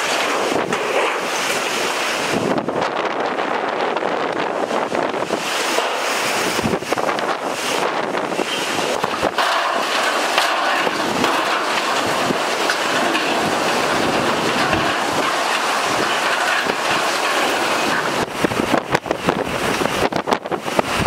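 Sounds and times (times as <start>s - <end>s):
roaring wind: 0.0s - 21.0s
wind buffeting microphone: 0.0s - 21.0s.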